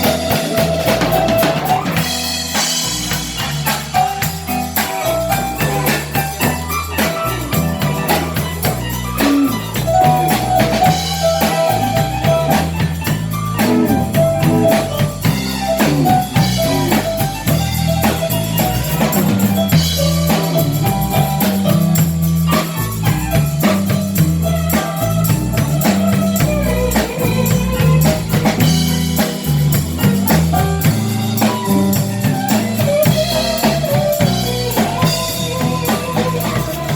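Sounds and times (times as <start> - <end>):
bass guitar: 0.0 - 36.9
drum kit: 0.0 - 36.9
electric guitar: 0.0 - 36.9.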